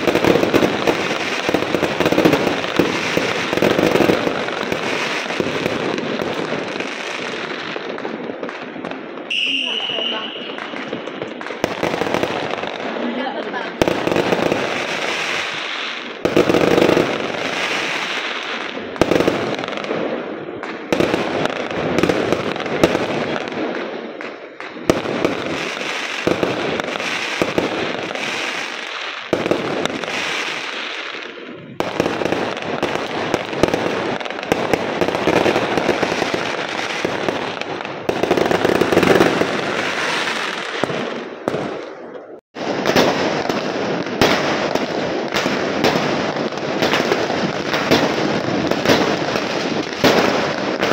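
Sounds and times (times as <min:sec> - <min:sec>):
dense firework crackling: 0:00.0 - 0:50.9
firework bangs: 0:00.0 - 0:50.9.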